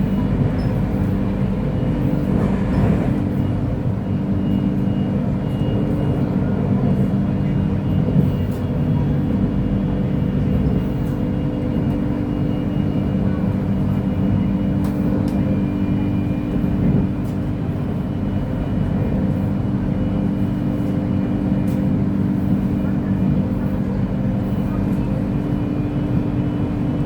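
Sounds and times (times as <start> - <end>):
electric train hum and rumble: 0.0 - 27.0.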